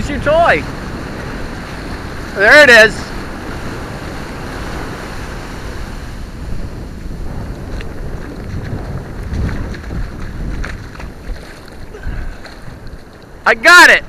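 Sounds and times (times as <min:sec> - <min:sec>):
ocean surf on beach: 0:00.0 - 0:14.0
wind buffeting microphone: 0:00.0 - 0:14.0.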